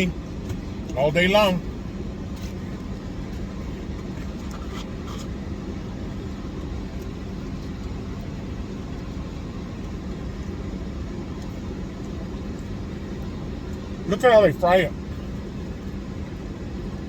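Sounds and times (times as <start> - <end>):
vehicle low rumble and hum: 0.0 - 17.0.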